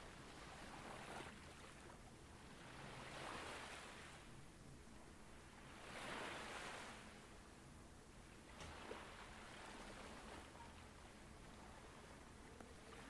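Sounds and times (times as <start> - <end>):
ocean waves washing on shore: 0.0 - 13.0.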